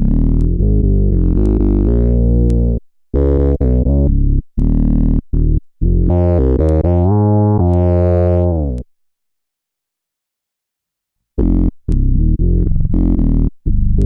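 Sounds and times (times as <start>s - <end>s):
synth bass notes: 0.0s - 8.9s, 11.4s - 14.0s.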